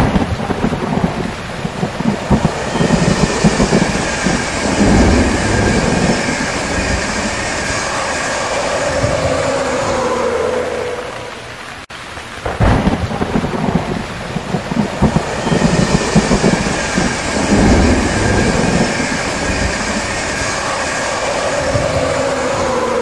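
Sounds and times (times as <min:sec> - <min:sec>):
wheel clatter over rails: 0:00.0 - 0:10.6, 0:14.4 - 0:23.0
passenger train passing: 0:00.0 - 0:11.9, 0:13.4 - 0:23.0.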